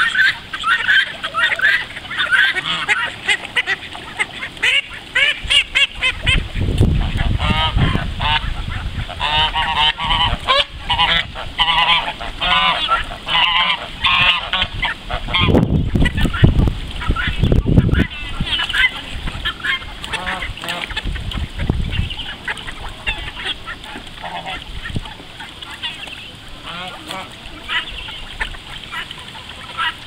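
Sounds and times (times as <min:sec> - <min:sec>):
ducks quacking: 0:00.0 - 0:30.0.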